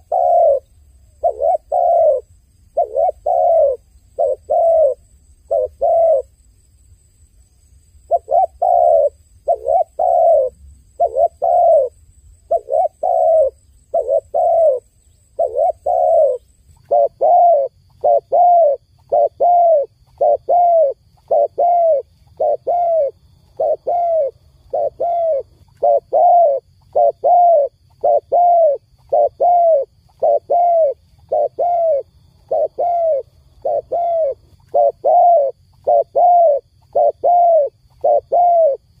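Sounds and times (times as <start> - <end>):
dove cooing: 0.0 - 6.4, 8.1 - 38.9.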